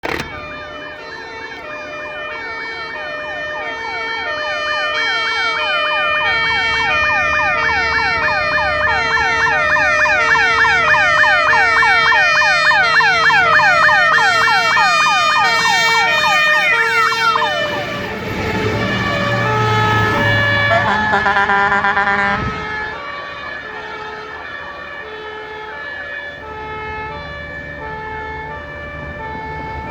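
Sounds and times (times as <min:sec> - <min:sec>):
fire truck siren yelping: 0:00.0 - 0:29.9.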